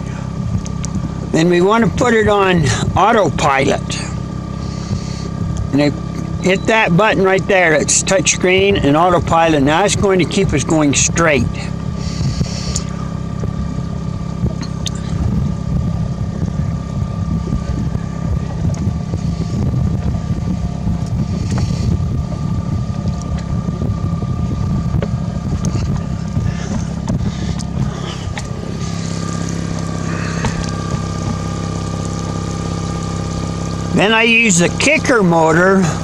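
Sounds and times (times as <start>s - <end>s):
faint steady whine: 0.0s - 36.0s
outboard boat motor running: 0.0s - 36.0s
wind and water noise: 0.0s - 36.0s.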